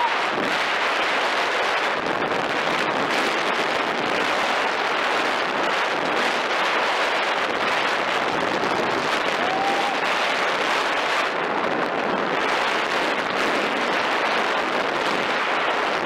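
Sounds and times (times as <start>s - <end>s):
vehicle road and wind noise: 0.0s - 16.0s.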